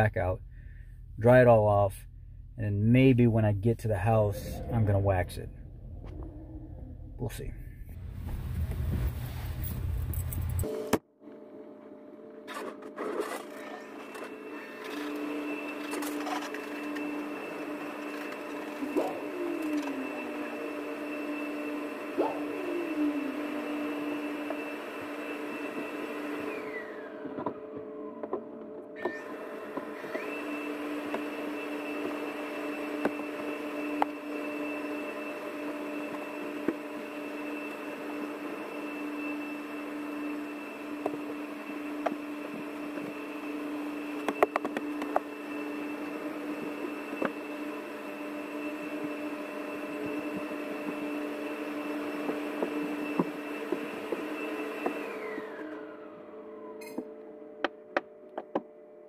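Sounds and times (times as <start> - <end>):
pressure washer motor whine: 3.8 - 9.0, 9.8 - 58.6.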